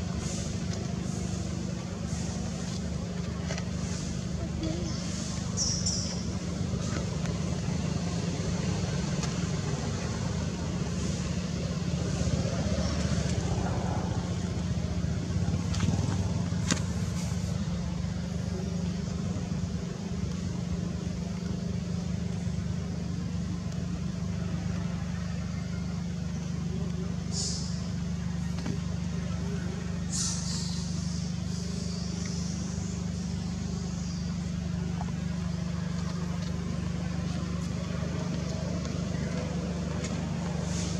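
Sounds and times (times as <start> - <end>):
low background rumble: 0.0 - 40.9.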